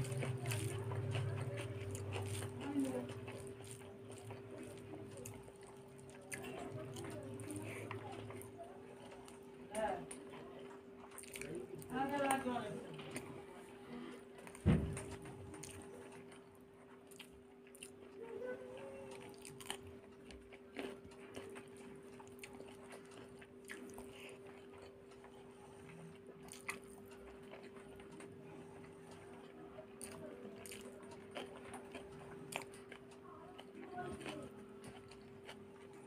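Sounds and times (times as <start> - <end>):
chewing and wet mouth noises: 0.0 - 36.0.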